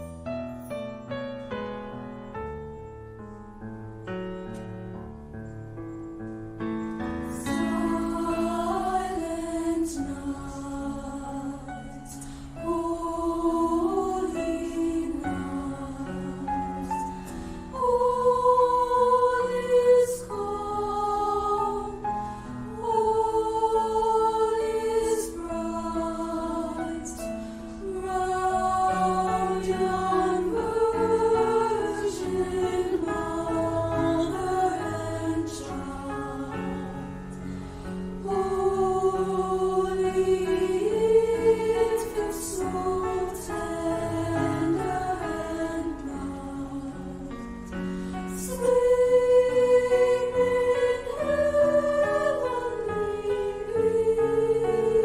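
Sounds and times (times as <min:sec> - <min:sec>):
choir singing in harmony: 0:06.6 - 0:55.0.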